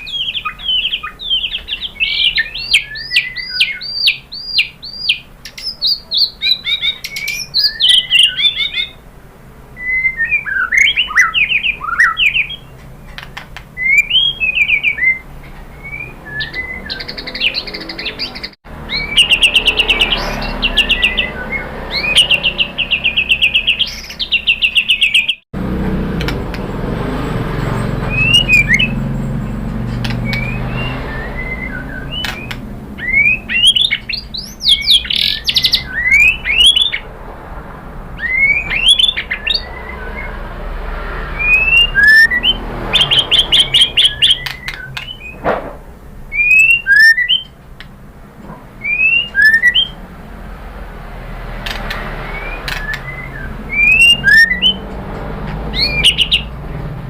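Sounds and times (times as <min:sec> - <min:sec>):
bird singing whistled notes: 0:00.0 - 0:09.0, 0:09.8 - 0:25.4, 0:28.0 - 0:37.1, 0:38.2 - 0:45.4, 0:46.3 - 0:47.6, 0:48.8 - 0:50.0, 0:52.0 - 0:54.9, 0:55.7 - 0:56.6.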